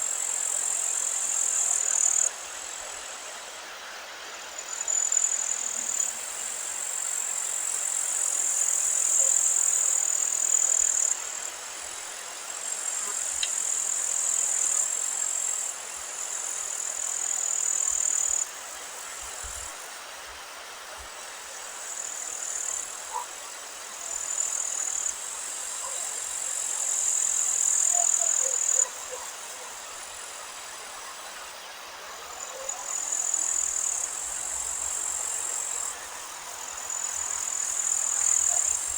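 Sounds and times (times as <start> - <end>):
insects buzzing: 0.0 - 38.9
wind: 0.0 - 38.9.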